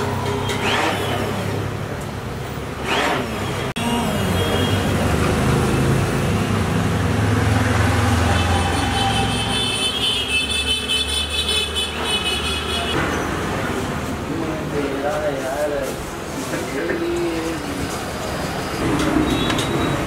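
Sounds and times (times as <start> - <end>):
road traffic engines: 0.0 - 20.0.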